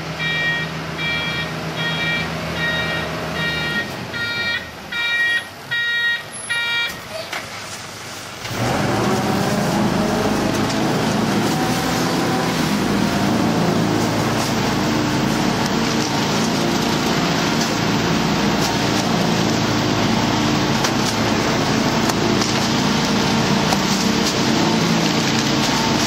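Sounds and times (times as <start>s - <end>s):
garbage truck engine running: 0.0s - 26.0s.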